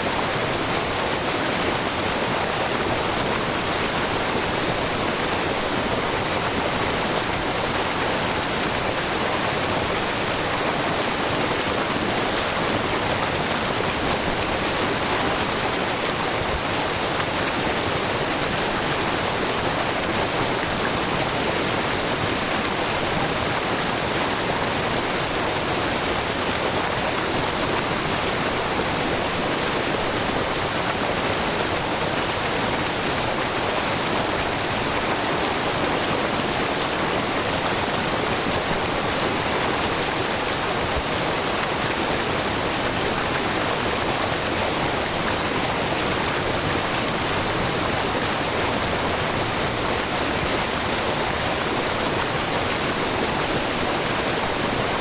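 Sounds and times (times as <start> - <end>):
waterfall splashing: 0.0 - 55.0.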